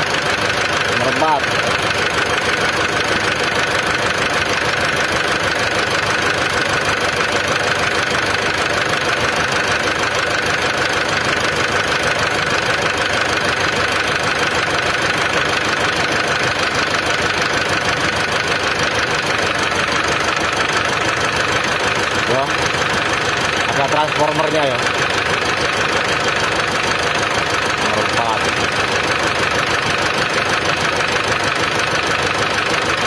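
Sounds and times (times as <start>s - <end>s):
diesel engine idling rough: 0.0s - 33.0s.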